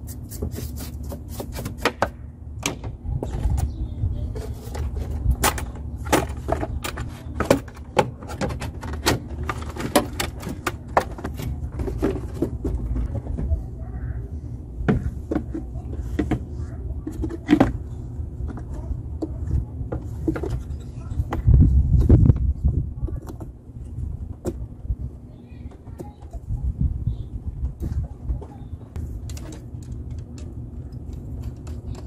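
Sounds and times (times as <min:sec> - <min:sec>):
steady low rumble: 0:02.1 - 0:32.0.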